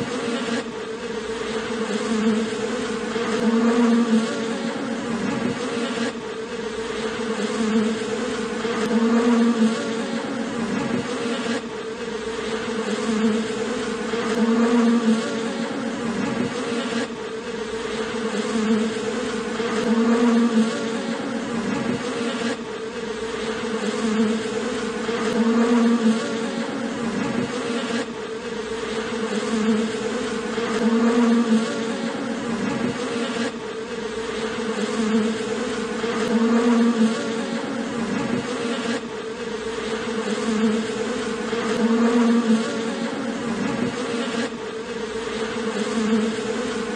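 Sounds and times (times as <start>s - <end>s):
honeybees buzzing: 0.0s - 46.9s.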